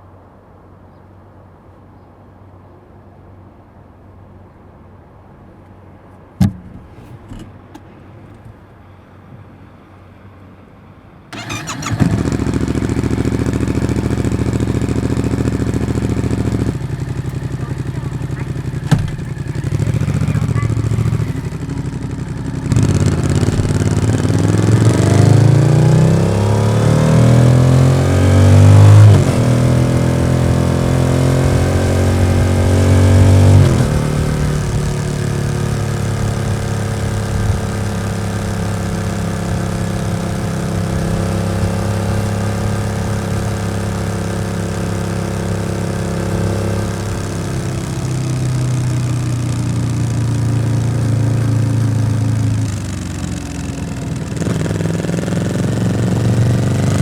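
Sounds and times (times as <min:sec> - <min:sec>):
motorcycle engine accelerating: 0:11.3 - 0:57.0.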